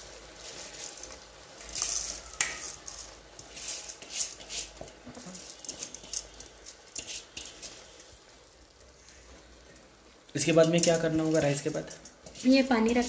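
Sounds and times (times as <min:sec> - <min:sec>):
rice pattering into metal pot: 0:00.0 - 0:13.0.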